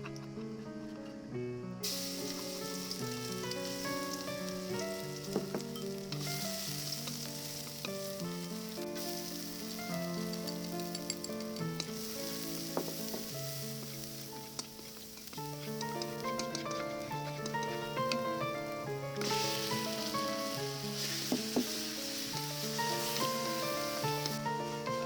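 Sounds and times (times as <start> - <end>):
soft background music: 0.0 - 25.0
eggplant sizzling in hot oil: 1.8 - 25.0
oil popping and crackling: 1.8 - 25.0.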